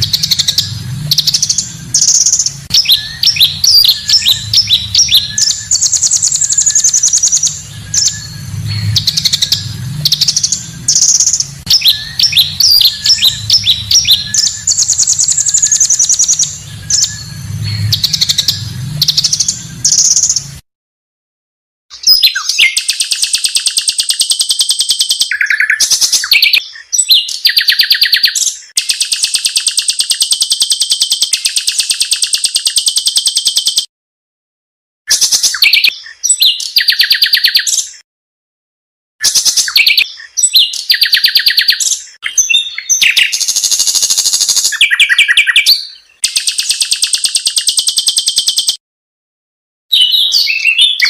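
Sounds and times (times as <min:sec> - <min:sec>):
bird chattering trills: 0:00.0 - 0:20.5, 0:22.0 - 0:33.9, 0:39.2 - 0:48.8.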